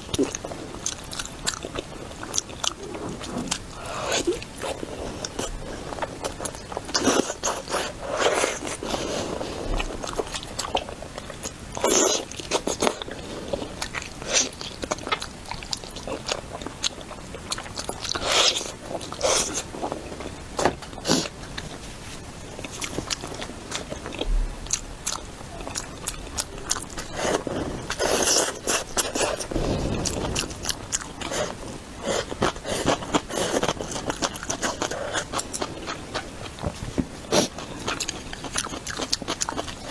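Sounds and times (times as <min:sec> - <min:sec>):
person chewing crunchy food: 0:00.0 - 0:21.8, 0:22.5 - 0:39.9.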